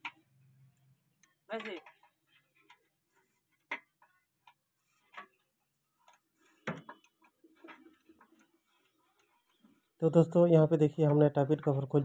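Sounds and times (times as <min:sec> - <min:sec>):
faint clicks and knocks: 0:00.0 - 0:10.0.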